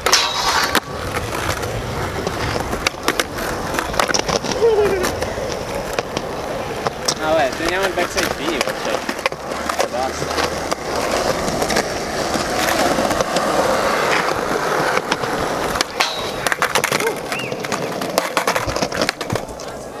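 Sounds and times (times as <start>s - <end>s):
skateboard clacking on ground: 0.0s - 20.0s
skateboard wheels rolling on concrete: 0.0s - 20.0s.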